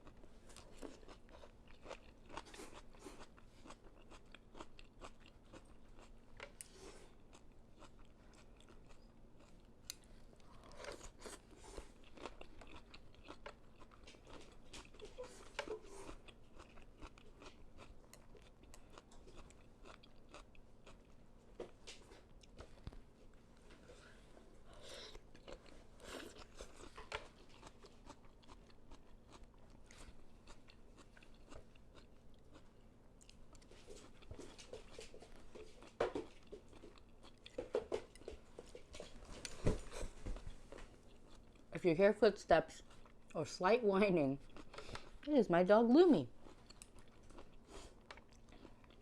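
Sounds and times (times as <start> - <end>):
crunching and chewing vegetables: 0.0 - 41.8, 42.6 - 43.4, 44.2 - 49.0.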